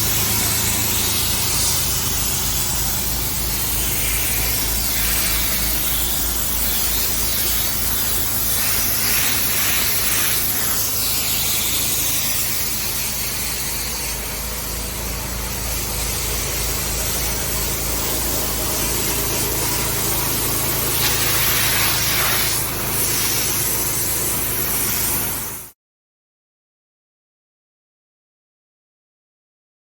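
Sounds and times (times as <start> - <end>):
pressure washer jet hissing: 0.0 - 25.7.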